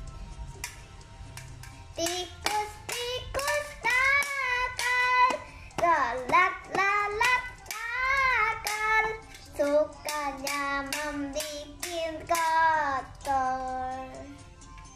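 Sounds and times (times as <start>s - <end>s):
sharp percussion taps: 1.4s - 13.4s
girl singing: 1.9s - 14.5s.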